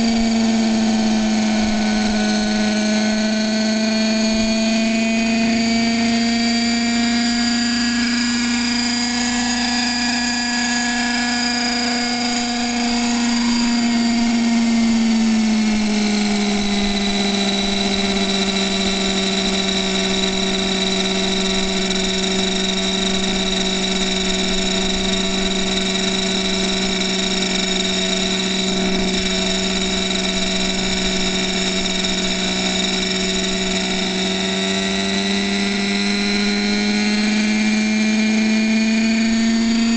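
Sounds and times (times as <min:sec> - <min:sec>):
model helicopter motor and rotor whine: 0:00.0 - 0:39.9.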